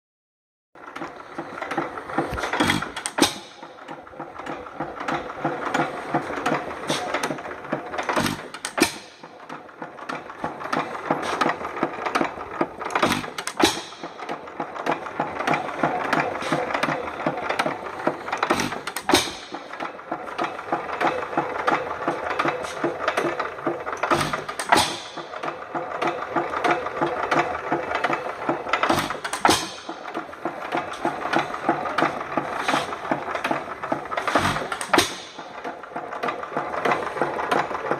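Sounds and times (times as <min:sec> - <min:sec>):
fast even mechanism clicking: 0:00.8 - 0:37.9
hit-and-miss engine firing: 0:01.6 - 0:37.6.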